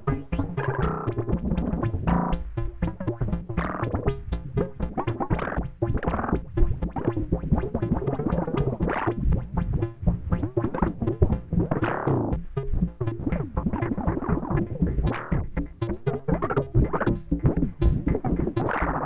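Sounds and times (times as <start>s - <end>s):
deep synth bass: 0.0s - 19.0s.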